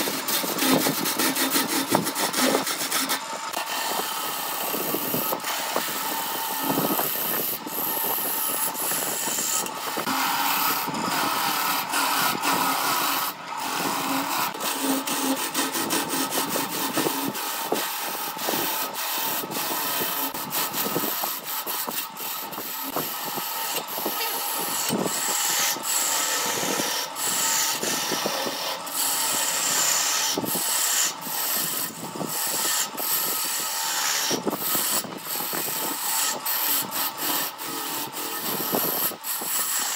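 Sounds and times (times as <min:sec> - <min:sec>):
turning tool scraping wood: 0:00.0 - 0:39.9
wood lathe running: 0:00.0 - 0:39.9.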